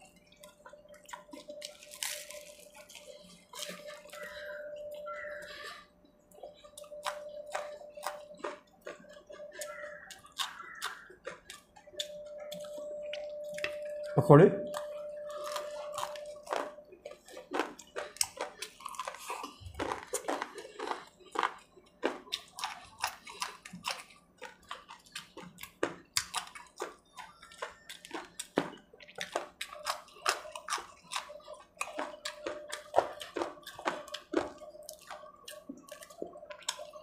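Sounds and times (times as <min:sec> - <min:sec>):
chewing and crunching fried food: 0:00.0 - 0:37.0.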